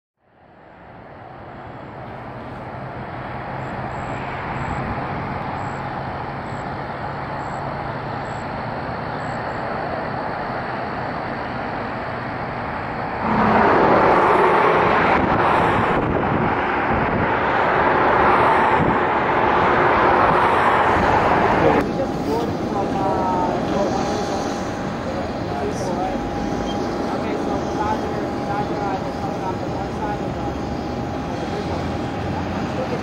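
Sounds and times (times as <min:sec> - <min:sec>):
jet engines roaring: 0:00.5 - 0:33.0.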